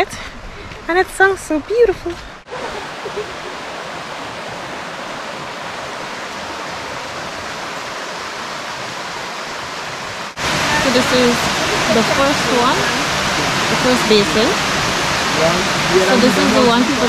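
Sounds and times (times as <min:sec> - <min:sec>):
stream running over stones: 0:02.4 - 0:17.0.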